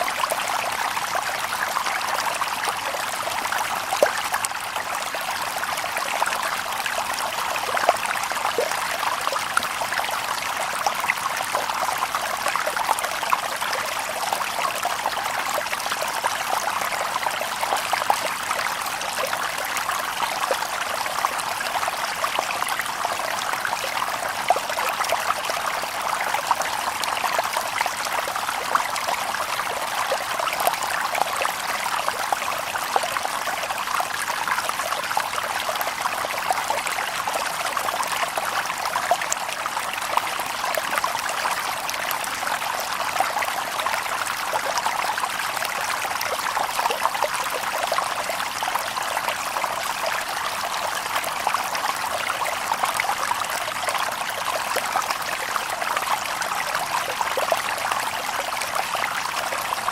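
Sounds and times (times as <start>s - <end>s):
stream babbling over stones: 0.0s - 59.9s.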